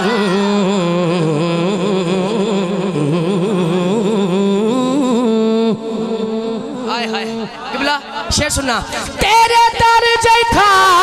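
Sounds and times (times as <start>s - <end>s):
man singing into a microphone: 0.0s - 8.3s, 8.9s - 11.0s.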